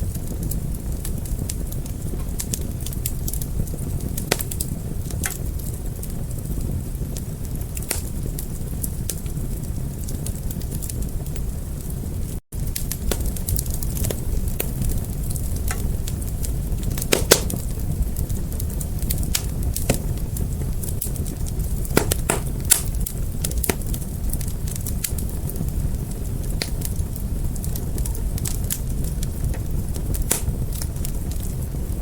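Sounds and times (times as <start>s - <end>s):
fire crackling: 0.0s - 32.0s
sharp pops from fire: 0.1s - 11.4s, 12.5s - 32.0s.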